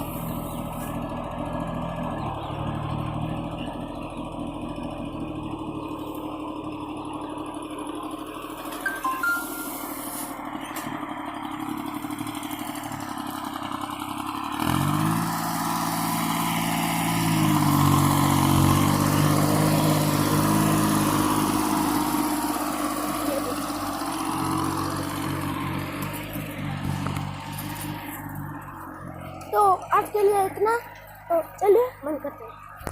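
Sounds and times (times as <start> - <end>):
tractor engine revving: 0.0 - 32.9.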